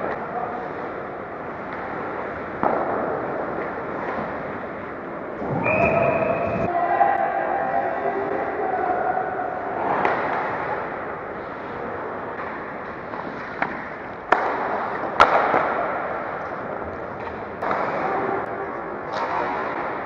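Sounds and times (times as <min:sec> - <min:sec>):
hockey sticks knocking puck: 0:00.0 - 0:05.7, 0:09.6 - 0:20.0
skates scraping on ice: 0:00.0 - 0:06.7, 0:09.4 - 0:20.0.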